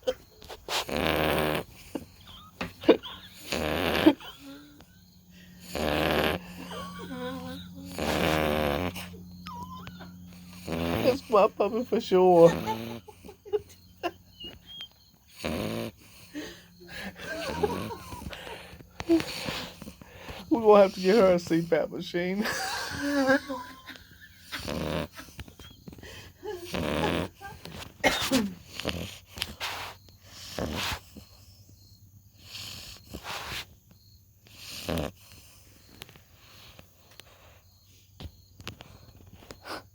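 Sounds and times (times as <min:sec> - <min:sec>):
puppy snoring: 0:00.0 - 0:39.9.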